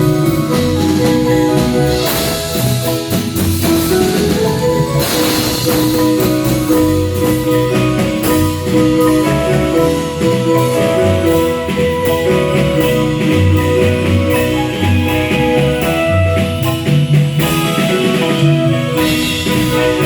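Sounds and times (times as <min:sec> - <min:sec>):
bass: 0:00.0 - 0:20.0
drum kit: 0:00.0 - 0:20.0
tremolo marimba melody: 0:00.0 - 0:20.0.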